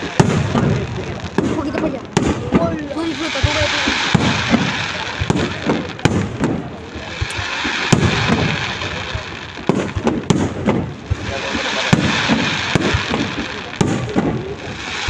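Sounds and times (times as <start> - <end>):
crowd murmur: 0.0 - 15.0
fireworks bangs and booms: 0.0 - 15.0.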